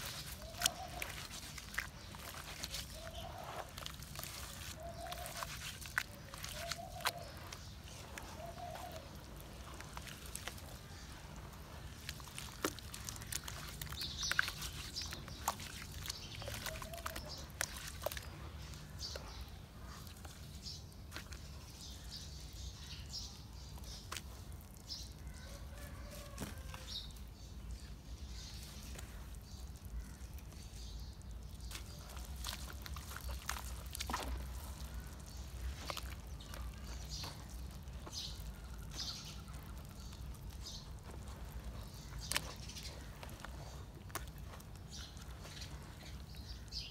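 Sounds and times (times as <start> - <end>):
hands squelching in wet cement: 0.0 - 46.9.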